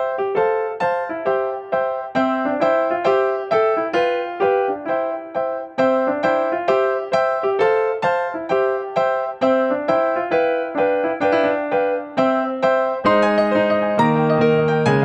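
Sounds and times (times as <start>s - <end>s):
keyboard melody: 0.0s - 15.0s.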